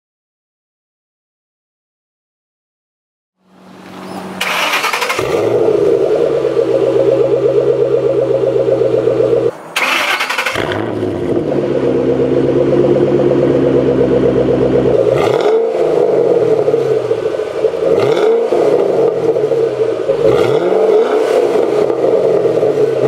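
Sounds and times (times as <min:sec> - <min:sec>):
car engine idling: 0:03.5 - 0:09.9, 0:10.5 - 0:23.0
engine revving in blips: 0:03.5 - 0:23.0.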